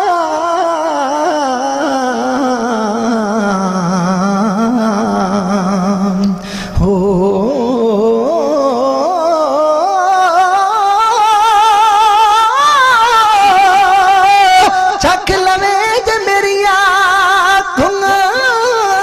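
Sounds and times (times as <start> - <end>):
man singing folk song with vibrato: 0.0 - 19.0.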